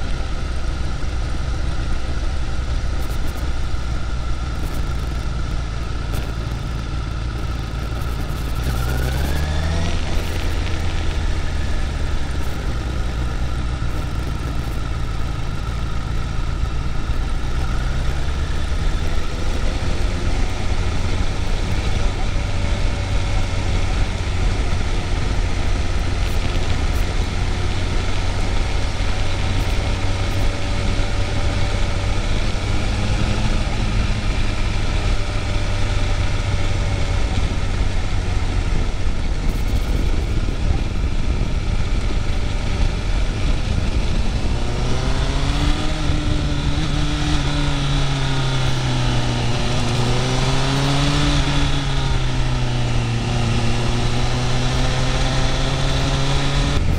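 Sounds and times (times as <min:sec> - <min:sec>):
motorcycle engine revving: 0:00.0 - 0:56.9
road and wind noise: 0:00.0 - 0:56.9.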